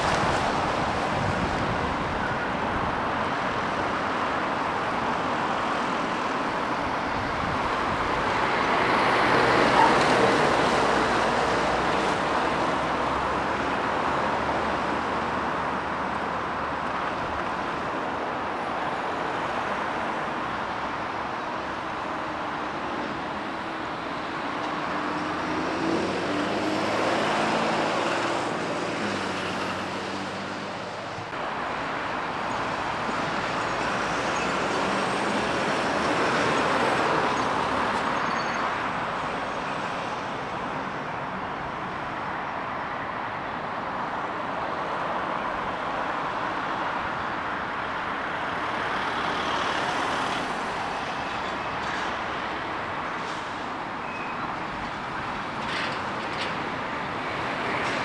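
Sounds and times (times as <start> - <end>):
lorries driving past: 0.0 - 58.0.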